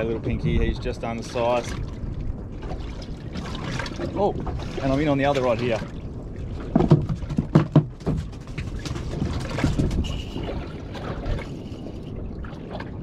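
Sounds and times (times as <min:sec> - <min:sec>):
water lapping against boat hull: 0:00.0 - 0:13.0
wind on microphone: 0:00.0 - 0:13.0.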